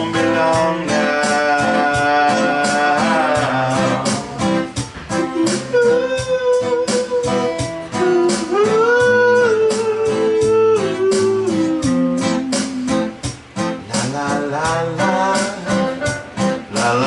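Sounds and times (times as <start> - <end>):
strummed guitar: 0.0 - 17.0.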